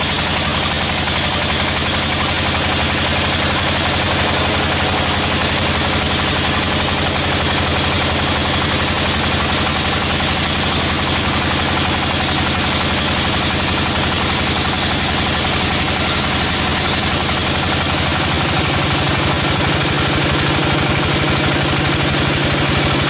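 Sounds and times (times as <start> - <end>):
sawmill machinery running: 0.0 - 23.0.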